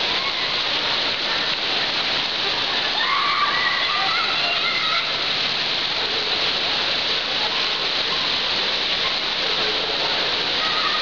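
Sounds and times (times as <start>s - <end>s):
heavy rain on street: 0.0s - 11.0s.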